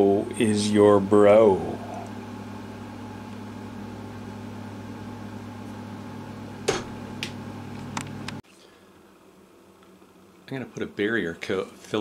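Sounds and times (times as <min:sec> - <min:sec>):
electric fan hum: 0:00.0 - 0:12.0.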